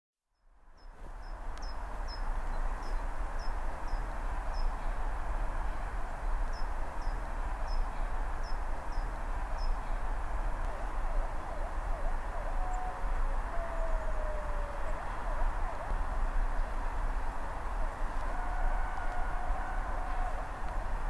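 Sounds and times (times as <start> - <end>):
low outdoor rumble and hiss: 0.4 - 21.0.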